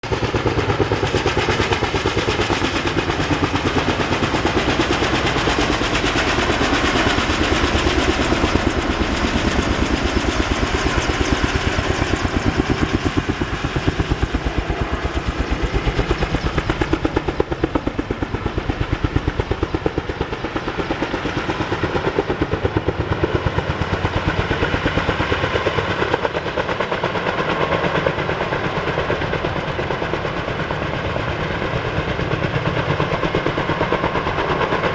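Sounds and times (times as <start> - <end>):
helicopter rotor chop: 0.0 - 34.9.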